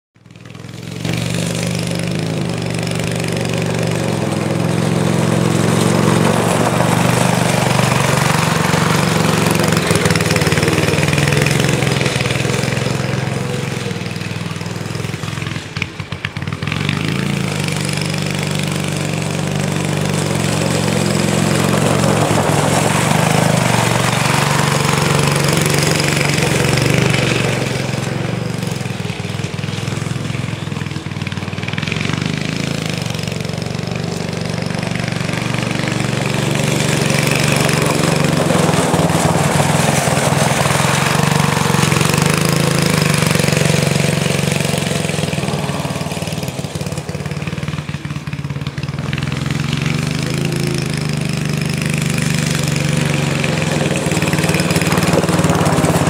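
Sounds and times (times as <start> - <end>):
go-kart engine running: 0.2 - 56.0.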